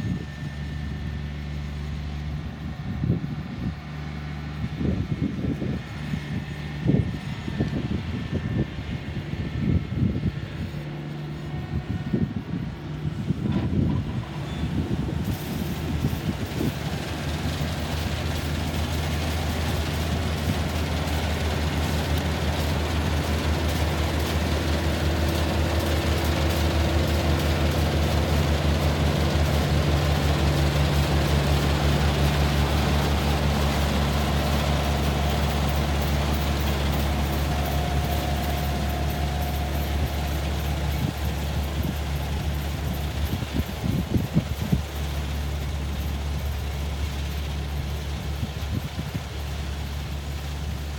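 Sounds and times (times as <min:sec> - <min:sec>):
combine harvester engine drone: 0:00.0 - 0:50.9
faint constant whine: 0:00.0 - 0:50.9
rushing mechanical whir: 0:00.0 - 0:50.9.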